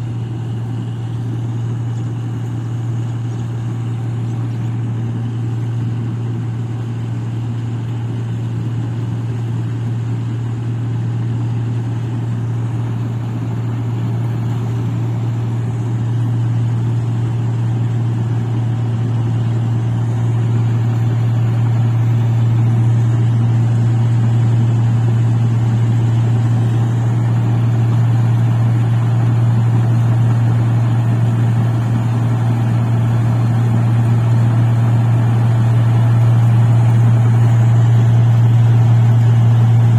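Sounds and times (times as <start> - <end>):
machine engine droning: 0.0 - 39.9.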